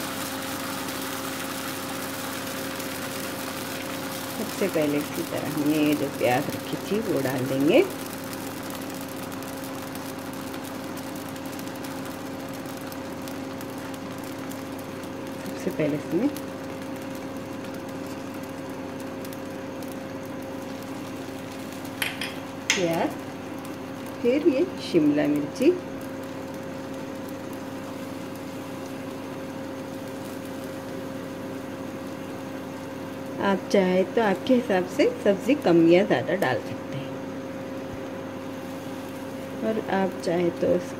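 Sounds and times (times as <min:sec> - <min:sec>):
two-tone machine hum: 0:00.0 - 0:40.9.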